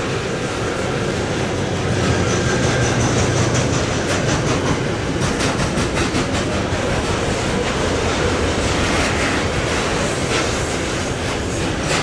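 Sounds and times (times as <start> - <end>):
locomotive humming: 0.0 - 12.0
train wheels clattering: 0.0 - 12.0.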